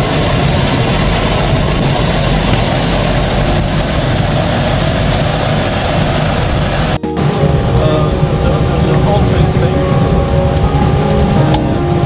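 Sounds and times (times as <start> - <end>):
aircraft turbine rumble: 0.0 - 12.0
high turbine whine: 0.0 - 12.0.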